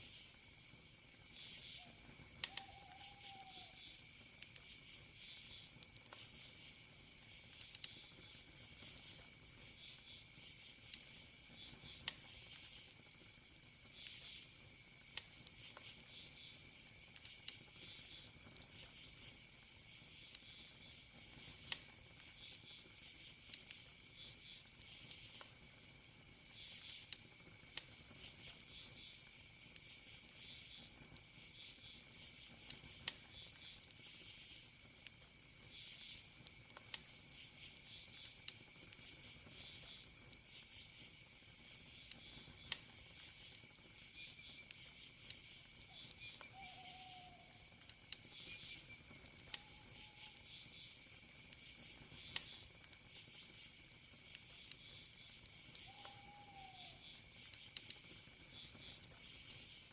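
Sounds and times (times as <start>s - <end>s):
campfire crackling and popping: 0.0s - 59.9s
crickets chirping: 0.0s - 59.9s
high insect trill: 0.0s - 59.9s.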